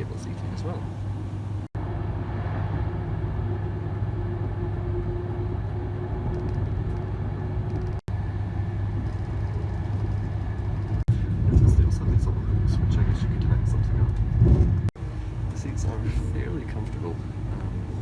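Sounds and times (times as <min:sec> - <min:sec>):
faint constant hum: 0:00.0 - 0:18.0
train coach rumble: 0:00.0 - 0:18.0.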